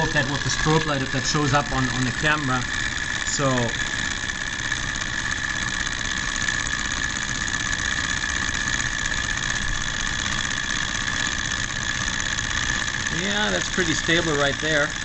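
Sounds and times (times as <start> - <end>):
small engine running fast: 0.0 - 15.0
steady high hum: 0.0 - 15.0.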